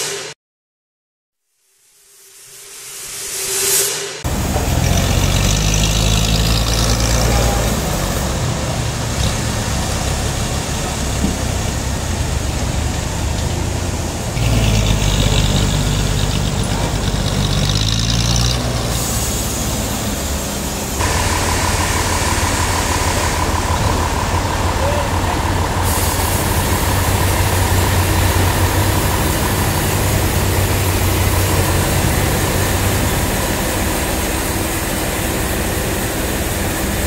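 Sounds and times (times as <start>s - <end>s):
forklift engine running: 4.2s - 37.0s.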